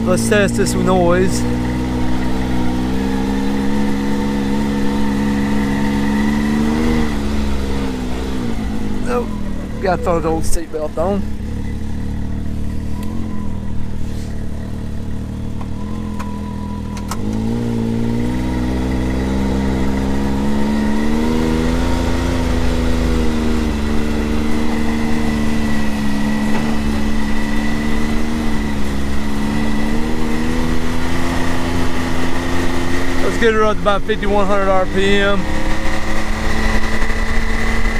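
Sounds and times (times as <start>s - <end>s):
turbocharged engine pulling away: 0.0s - 37.9s.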